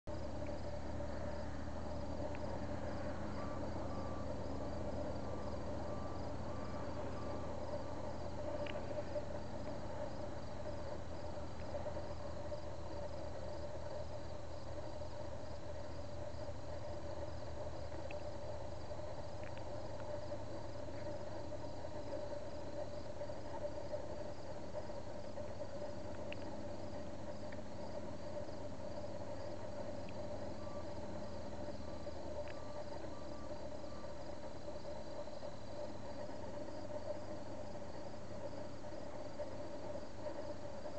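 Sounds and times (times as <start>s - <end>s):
insects chirping: 0.1s - 40.9s
low drone: 0.1s - 40.9s.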